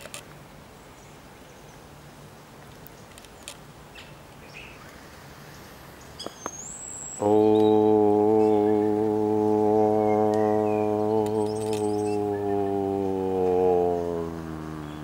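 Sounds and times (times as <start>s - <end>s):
birds chirping faintly: 0.4s - 15.0s.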